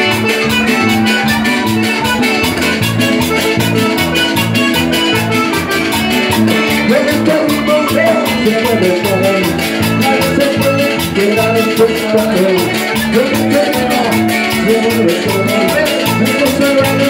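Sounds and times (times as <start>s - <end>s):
fast percussion beat: 0.0s - 17.0s
live band playing latin dance music: 0.0s - 17.0s
repeating bass line: 0.0s - 17.0s.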